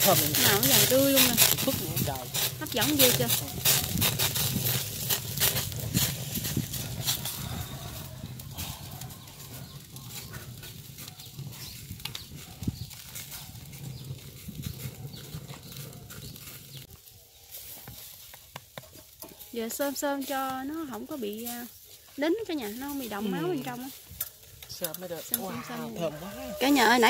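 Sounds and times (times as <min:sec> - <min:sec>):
charcoal fire crackling: 0:00.0 - 0:27.0.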